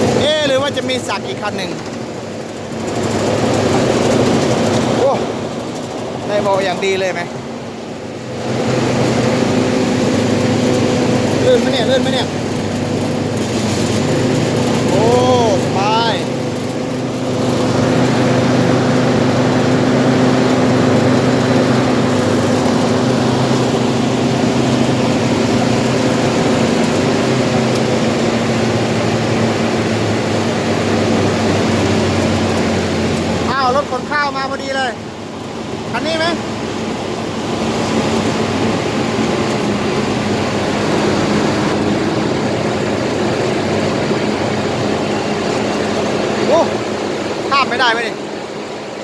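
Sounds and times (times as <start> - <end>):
combine harvester engine running: 0.0 - 49.0.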